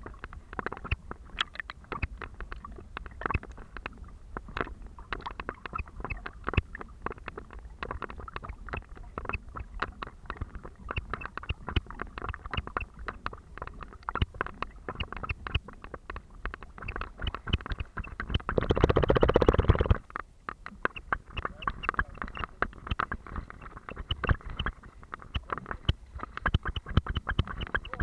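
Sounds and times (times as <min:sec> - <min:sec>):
small irregular clicks and knocks: 0:00.0 - 0:28.0
water sloshing and splashing: 0:00.0 - 0:28.0.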